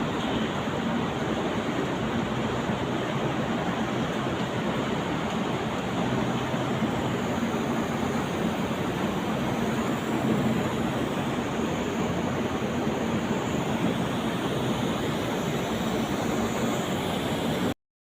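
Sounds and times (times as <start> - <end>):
machinery humming loudly: 0.0 - 17.8.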